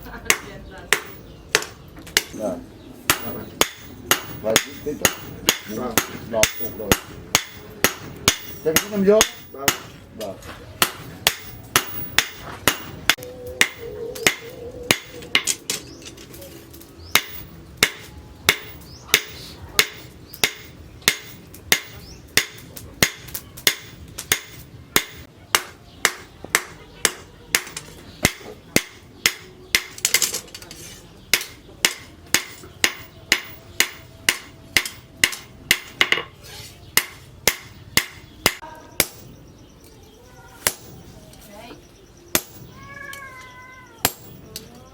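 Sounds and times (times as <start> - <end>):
hammer striking steel on anvil: 0.3 - 2.4, 3.1 - 10.0, 10.8 - 15.9, 17.0 - 36.3, 37.0 - 39.4, 40.6 - 41.2, 42.3 - 42.8, 44.0 - 44.7.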